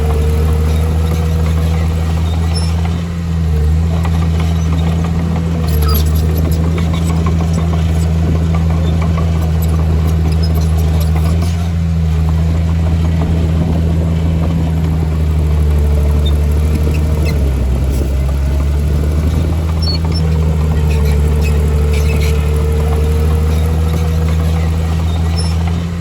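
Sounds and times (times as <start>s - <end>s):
heavy diesel engine droning: 0.0s - 26.0s.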